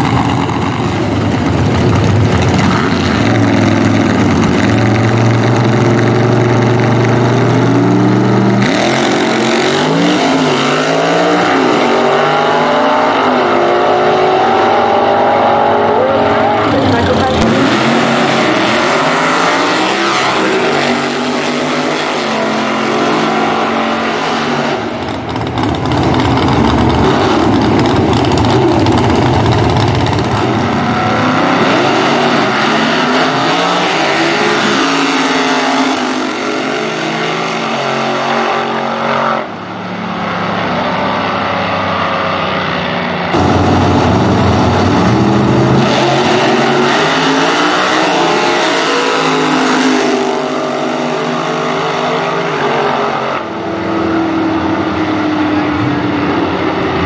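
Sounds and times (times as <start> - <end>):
drag racing engines at full throttle: 0.0 - 57.0.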